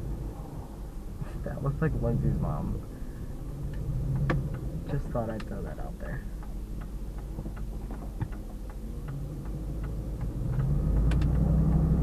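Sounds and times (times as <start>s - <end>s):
truck engine rumble accelerating: 0.0s - 12.0s
turn signal ticking: 1.5s - 12.0s.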